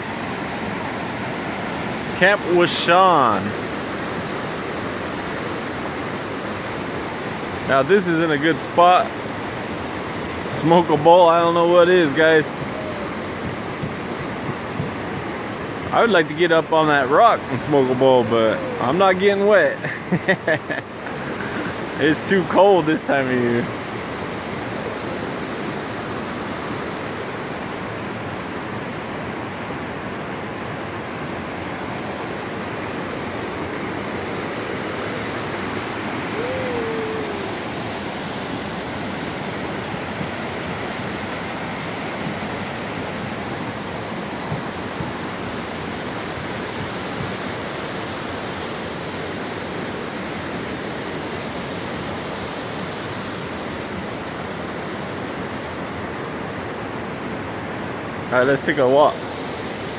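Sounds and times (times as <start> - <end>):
river running over rocks: 0.0 - 59.9.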